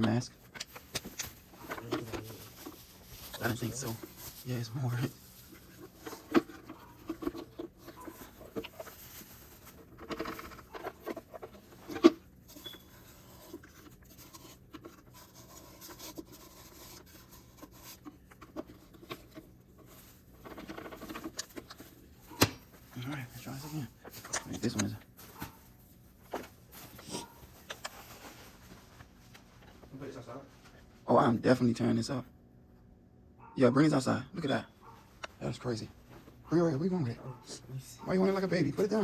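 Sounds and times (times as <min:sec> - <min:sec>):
rustling and handling noises: 0:00.0 - 0:32.2, 0:34.4 - 0:39.0.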